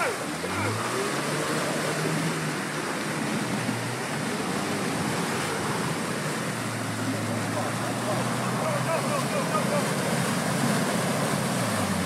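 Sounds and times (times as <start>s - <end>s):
engine running at low revs: 0.0s - 12.0s
water churning and splashing: 0.0s - 12.0s.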